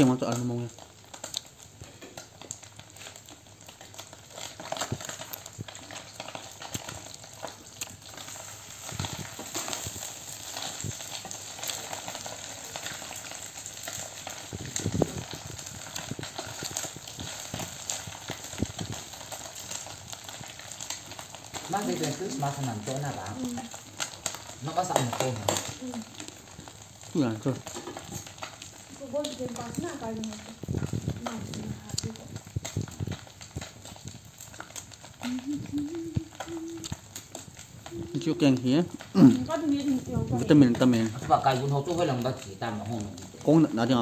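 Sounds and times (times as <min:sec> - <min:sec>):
chewing crispy fried food: 0:00.0 - 0:44.0.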